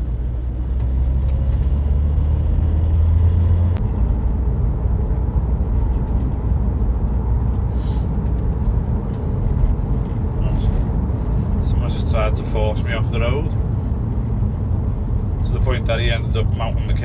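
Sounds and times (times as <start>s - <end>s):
car engine drone: 0.0s - 17.0s
road rumble: 0.0s - 17.0s.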